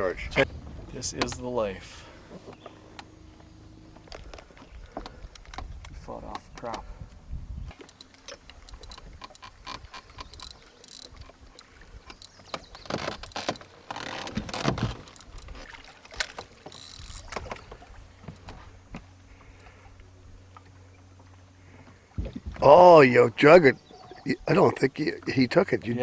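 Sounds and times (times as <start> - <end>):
fishing gear clattering in a boat: 0.0 - 7.0, 7.7 - 25.8.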